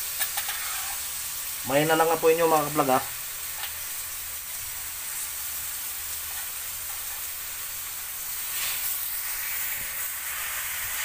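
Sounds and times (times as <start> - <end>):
pork sizzling in a wok: 0.0 - 11.0.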